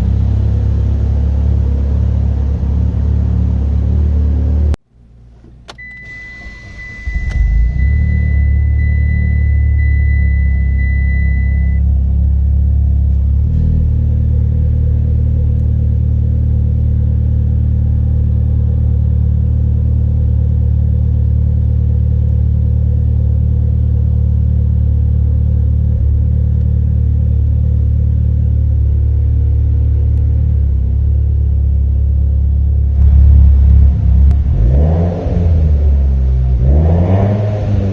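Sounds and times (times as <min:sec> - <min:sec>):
car engine idling: 0:06.4 - 0:37.9.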